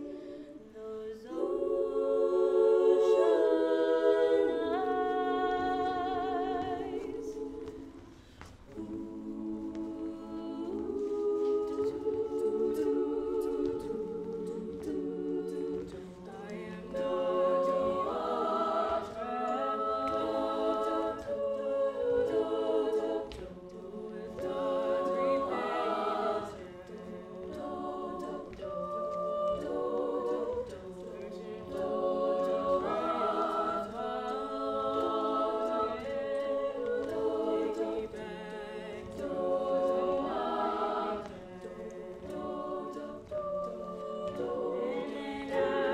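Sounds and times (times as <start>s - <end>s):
women singing in close harmony: 0.0s - 45.9s
percussion ticks: 2.8s - 45.9s.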